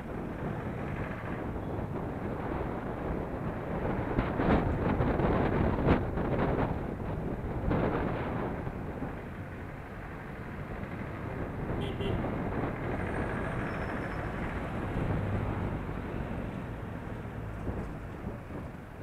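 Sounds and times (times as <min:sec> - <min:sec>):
passing vehicles rumbling: 0:00.0 - 0:19.0
wind on microphone: 0:00.0 - 0:19.0.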